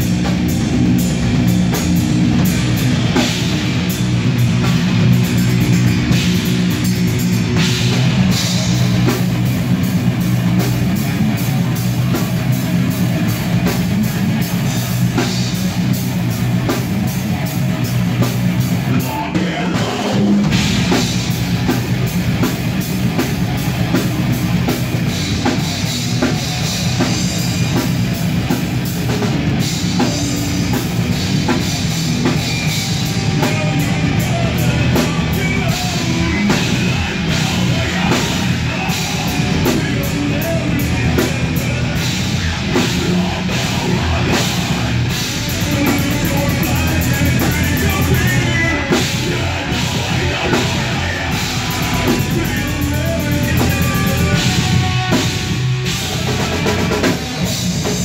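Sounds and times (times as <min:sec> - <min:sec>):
fast drumming on drum kit: 0:00.0 - 0:58.0
heavy metal band playing: 0:00.0 - 0:58.0.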